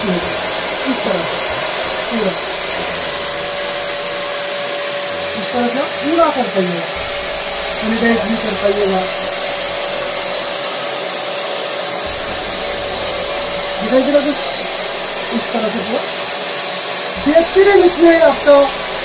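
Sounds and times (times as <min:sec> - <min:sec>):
paint sprayer blower whining: 0:00.0 - 0:19.0.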